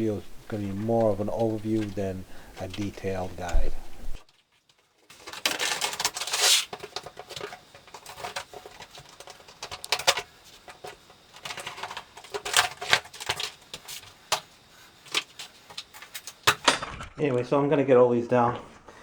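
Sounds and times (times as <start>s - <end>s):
panels tapping and clicking: 0.0s - 4.2s, 5.1s - 17.6s
plastic panels rustling: 0.0s - 17.6s.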